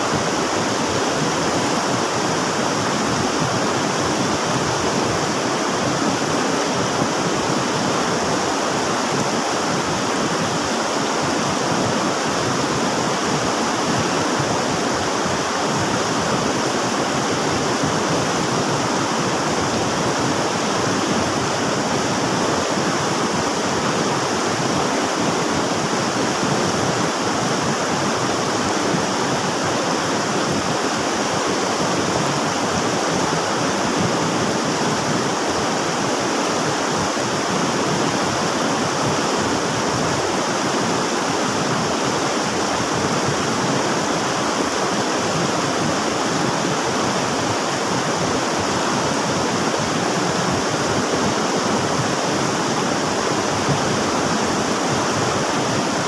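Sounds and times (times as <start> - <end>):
river water rushing and splashing: 0.0 - 56.0.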